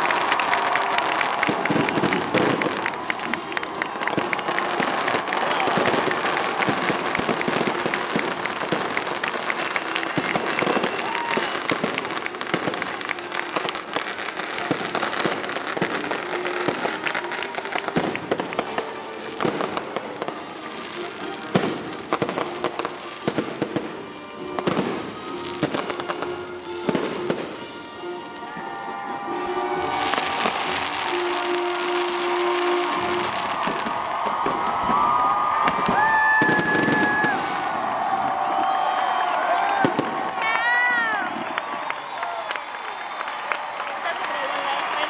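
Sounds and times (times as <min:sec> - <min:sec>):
fireworks bangs and crackling: 0:00.0 - 0:45.0.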